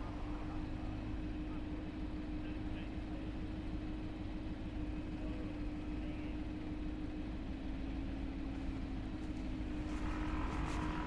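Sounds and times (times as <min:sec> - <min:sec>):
city street noise: 0:00.0 - 0:11.0
low mechanical hum: 0:00.0 - 0:11.0.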